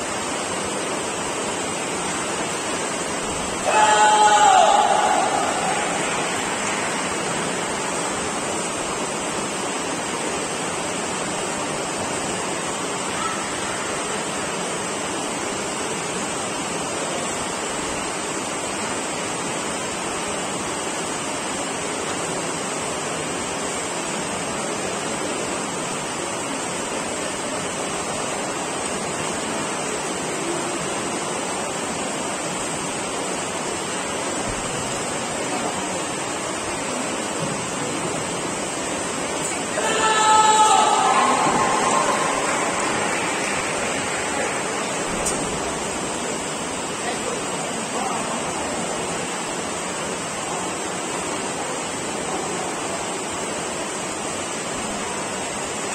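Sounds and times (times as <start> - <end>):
sports hall background noise: 0.0 - 55.9.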